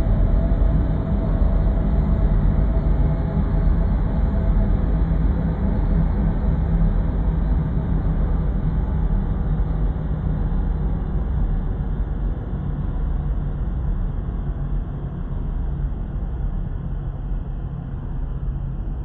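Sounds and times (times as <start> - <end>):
dark ambient drone music: 0.0 - 19.0.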